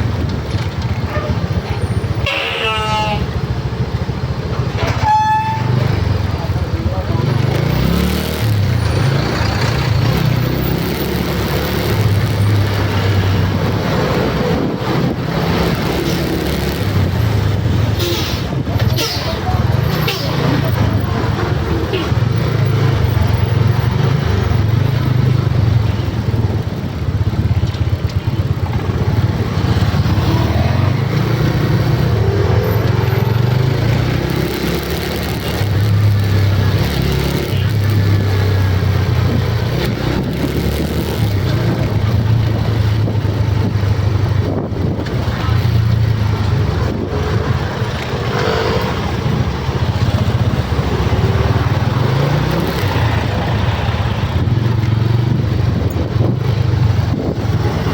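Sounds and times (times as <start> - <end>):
road noise: 0.0 - 57.9
vehicle engine rumble: 0.0 - 57.9.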